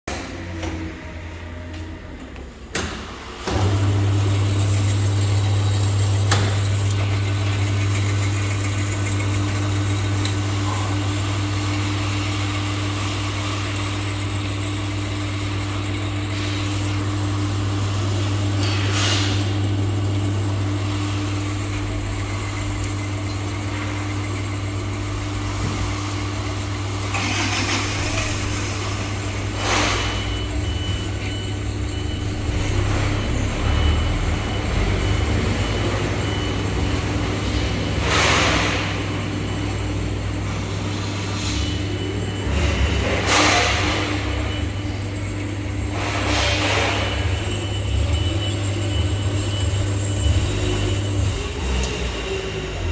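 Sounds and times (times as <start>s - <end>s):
bandsaw motor humming: 3.5s - 52.9s.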